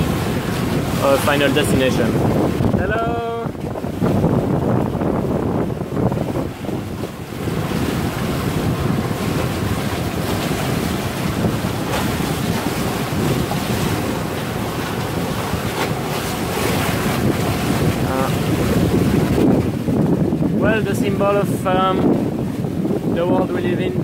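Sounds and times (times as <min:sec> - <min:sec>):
water splashing against boat hull: 0:00.0 - 0:24.0
wind buffeting microphone: 0:00.0 - 0:24.0.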